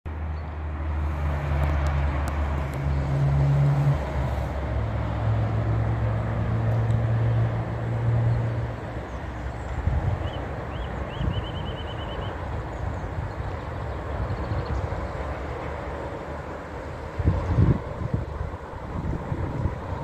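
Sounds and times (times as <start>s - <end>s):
vehicle engines droning: 0.1s - 20.0s.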